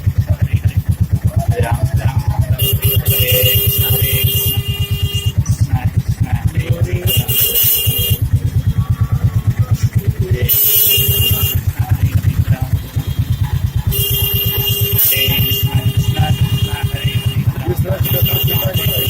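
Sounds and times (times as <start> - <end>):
small engine putt-putt running: 0.0 - 19.0.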